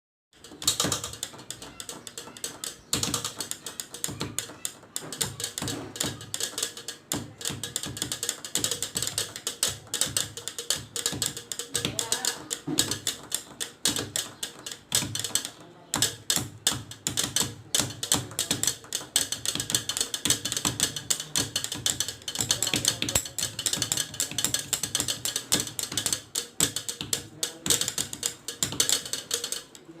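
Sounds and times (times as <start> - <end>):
rapid tapping and clicking: 0.4 - 30.0.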